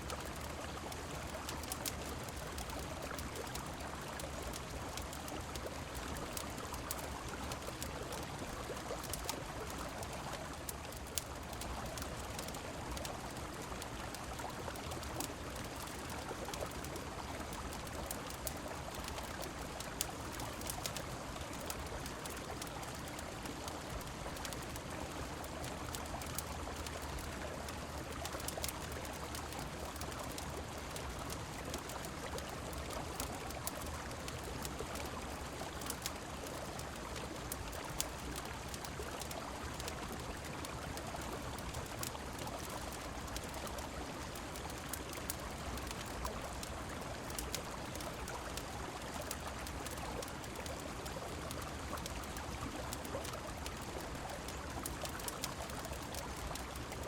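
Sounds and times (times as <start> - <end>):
rain falling: 0.0 - 57.0
fireplace crackling: 0.1 - 40.8, 41.6 - 52.4, 53.0 - 57.0.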